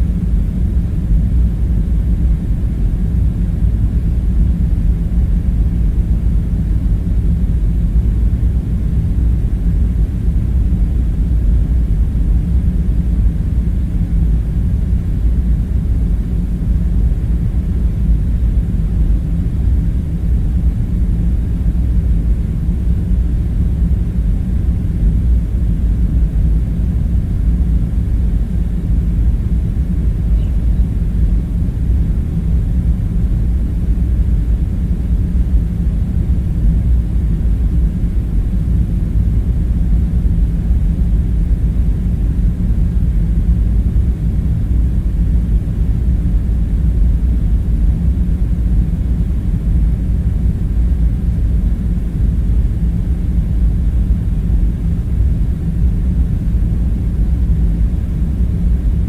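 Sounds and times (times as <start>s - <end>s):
low rumbling drone: 0.0s - 59.0s.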